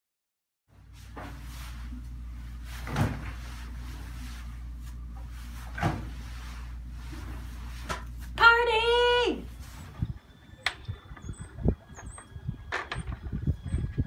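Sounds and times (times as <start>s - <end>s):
steady low hum: 0.7s - 14.0s.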